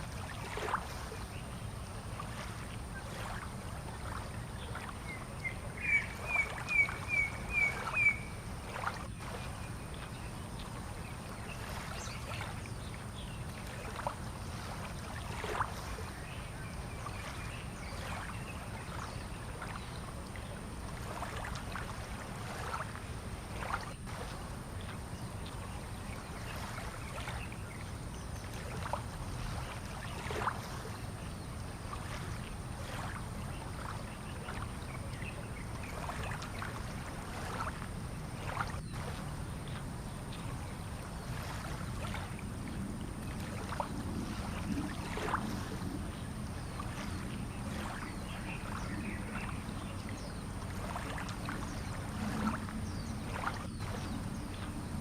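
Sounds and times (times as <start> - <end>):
steady low hum: 0.0 - 55.0
water lapping and splashing: 0.0 - 55.0.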